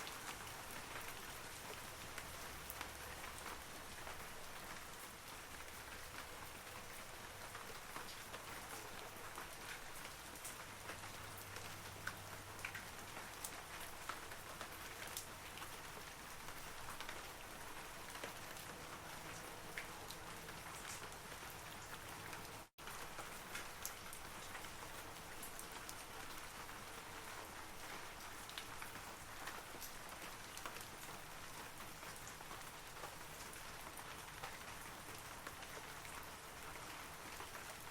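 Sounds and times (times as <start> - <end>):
rain falling on trees: 0.0 - 37.9.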